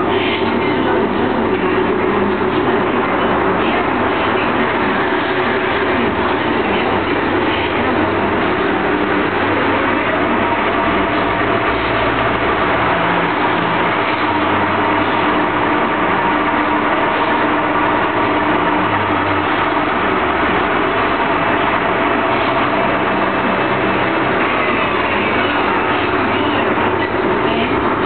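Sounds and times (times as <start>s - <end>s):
machine whirring: 0.0s - 28.0s.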